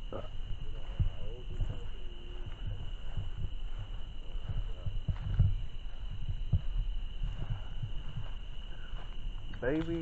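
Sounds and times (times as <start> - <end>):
footsteps on grass: 0.0 - 10.0
insect chorus: 0.0 - 10.0.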